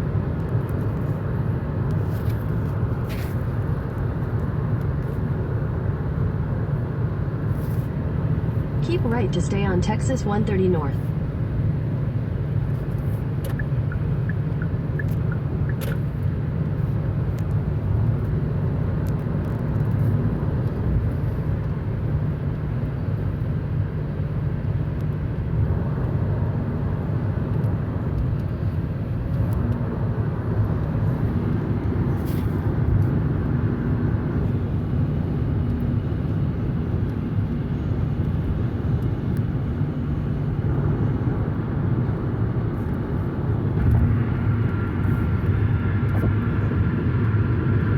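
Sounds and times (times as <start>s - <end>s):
road and engine noise in car: 0.0s - 47.9s.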